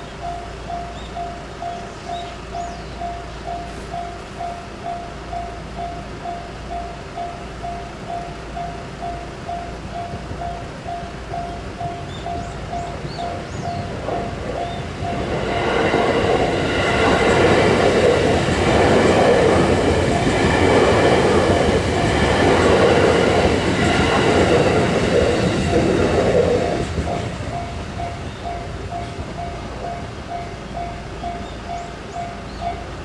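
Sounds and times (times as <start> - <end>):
crossing warning bell: 0.0 - 33.0
train wheels clattering over rails: 1.0 - 33.0.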